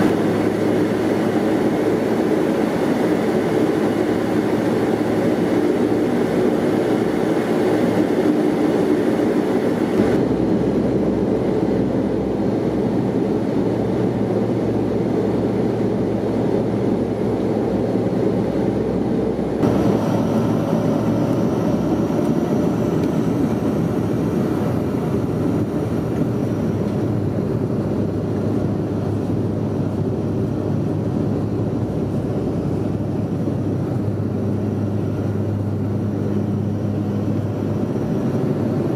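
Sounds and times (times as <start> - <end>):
turboprop engine drone: 0.0 - 38.9.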